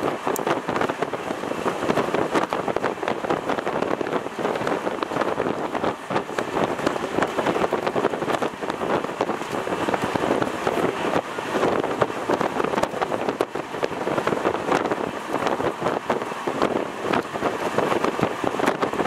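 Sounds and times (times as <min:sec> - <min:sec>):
wind and wheels rushing: 0:00.0 - 0:19.0.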